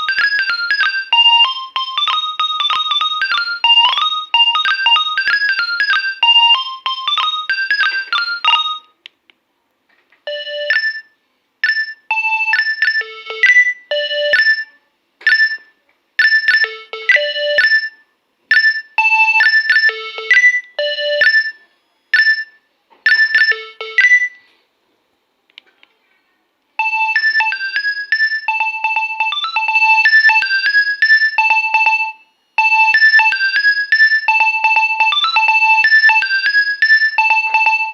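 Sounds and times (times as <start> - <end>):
bright electronic ringtone notes: 0.0 - 9.0, 10.3 - 24.4, 26.8 - 37.9
phone ringtone melody: 0.0 - 9.0, 10.3 - 24.4, 26.8 - 37.9.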